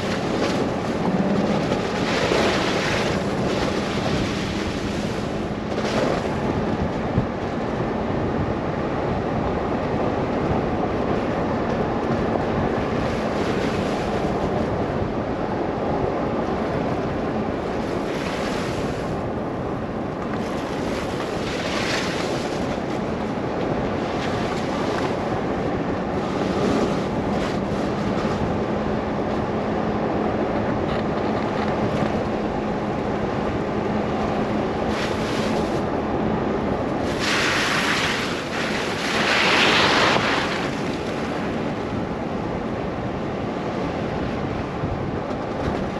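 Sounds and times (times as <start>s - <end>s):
rushing blizzard wind: 0.0s - 45.9s.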